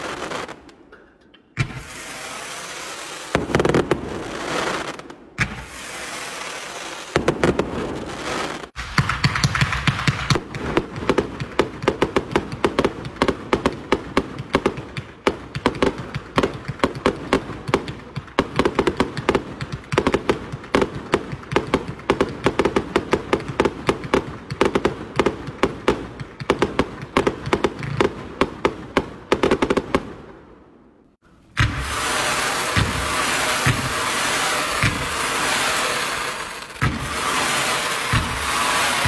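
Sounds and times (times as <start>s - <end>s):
firework cake rapid pops and bangs: 1.6s - 30.2s, 31.5s - 39.0s.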